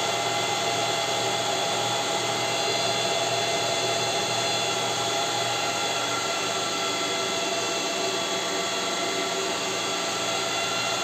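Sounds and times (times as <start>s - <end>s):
cooling fans whirring and whining: 0.0s - 11.0s.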